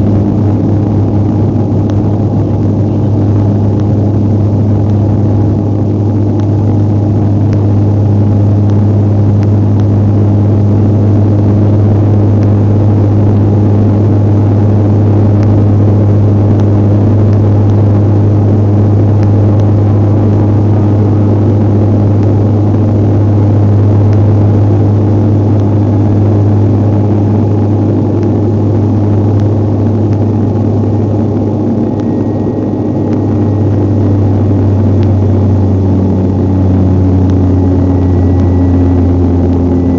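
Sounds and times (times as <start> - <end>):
airliner engines droning: 0.0 - 39.9.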